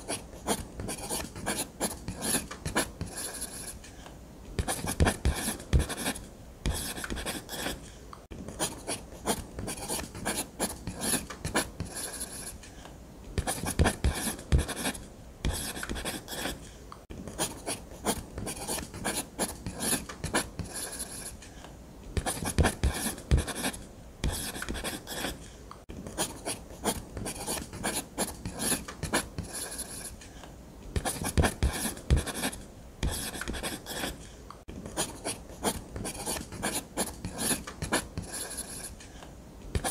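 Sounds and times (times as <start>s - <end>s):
pen scratching on paper: 0.0s - 3.8s, 4.6s - 7.9s, 8.5s - 12.6s, 13.4s - 16.6s, 17.3s - 21.4s, 22.2s - 25.5s, 26.1s - 30.2s, 31.0s - 39.0s.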